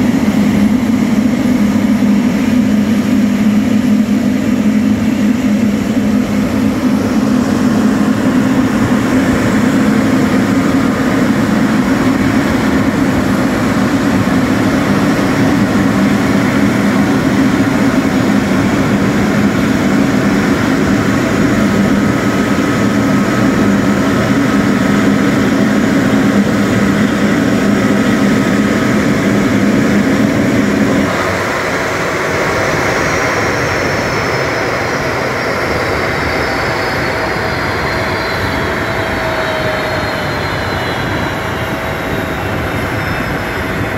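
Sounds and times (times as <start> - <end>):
jet engine low hum: 0.0 - 43.9
jet engine whine spooling down: 0.0 - 43.9.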